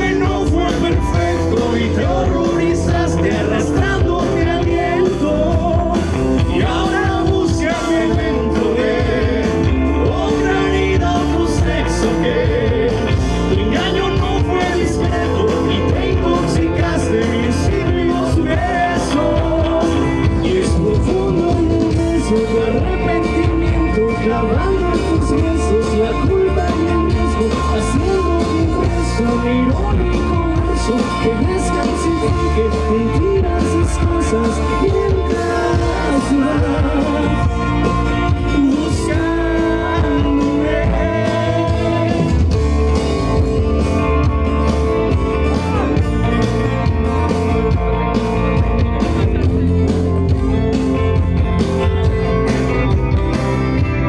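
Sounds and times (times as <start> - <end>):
lead vocal singing: 0.0 - 44.2
bass guitar: 0.0 - 54.0
drum kit: 0.0 - 54.0
electric guitar: 0.0 - 54.0.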